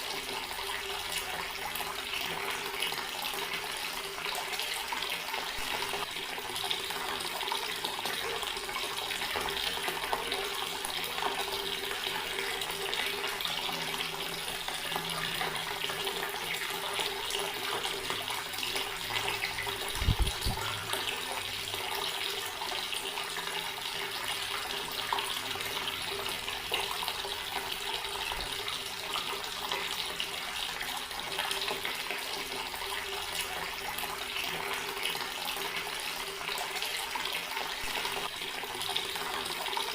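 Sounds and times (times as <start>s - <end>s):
tap water splashing into sink: 1.1s - 39.9s.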